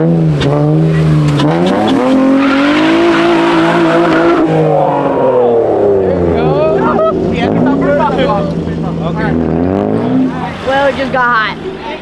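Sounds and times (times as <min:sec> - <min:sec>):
car engine revving: 0:00.0 - 0:12.0
tires squealing: 0:00.0 - 0:12.0.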